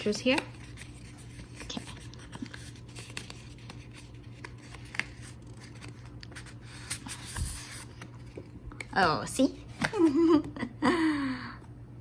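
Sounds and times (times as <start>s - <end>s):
paper and cardboard rustling: 0.0s - 10.1s.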